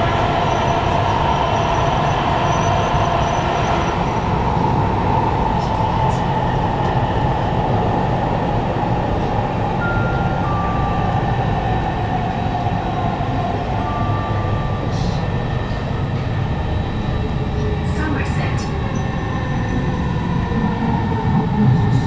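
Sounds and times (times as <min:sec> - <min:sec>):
train rumbling in motion: 0:00.0 - 0:22.0.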